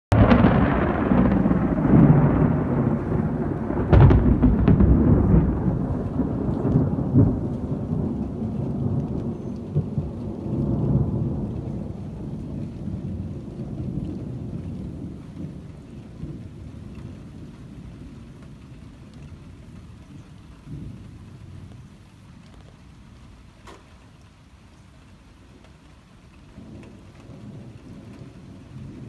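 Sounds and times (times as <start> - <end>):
thunder cracks: 0.1 - 22.7, 26.5 - 29.0
thunder rumbling: 0.1 - 29.0.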